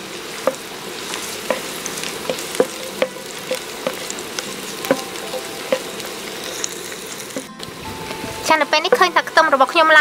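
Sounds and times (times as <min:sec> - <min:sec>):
garlic sizzling in oil: 0:00.0 - 0:10.0.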